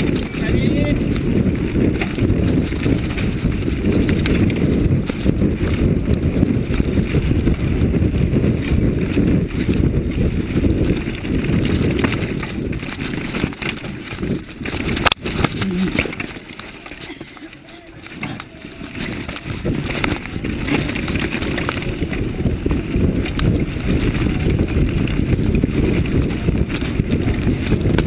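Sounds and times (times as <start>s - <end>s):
bike tyres rumbling and rattling: 0.0s - 28.0s.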